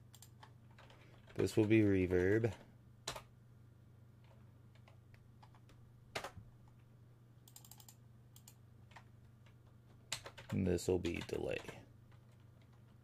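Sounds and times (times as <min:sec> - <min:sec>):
computer keyboard keystrokes: 0:00.1 - 0:03.3, 0:04.2 - 0:06.4, 0:07.5 - 0:13.0.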